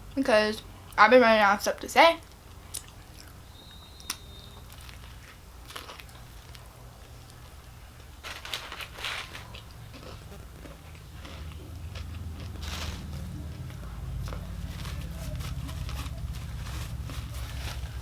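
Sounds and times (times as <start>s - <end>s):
steady low hum: 0.0s - 18.0s
crunchy chewing: 2.2s - 18.0s.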